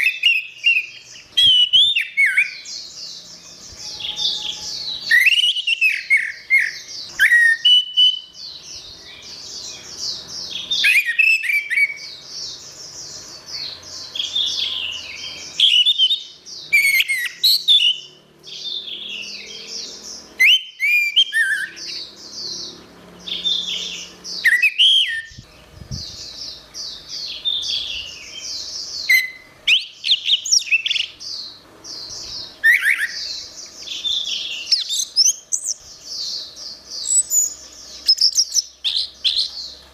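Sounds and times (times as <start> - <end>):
thrush singing: 0.0 - 35.5.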